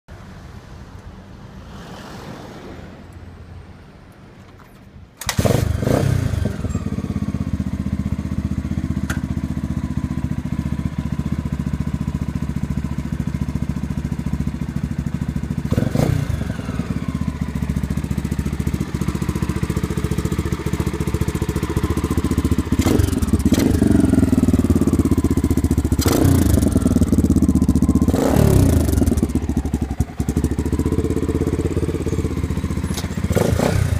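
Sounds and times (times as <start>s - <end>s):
motorcycle engine starting: 5.2s - 33.9s
motorcycle engine idling: 6.2s - 33.9s.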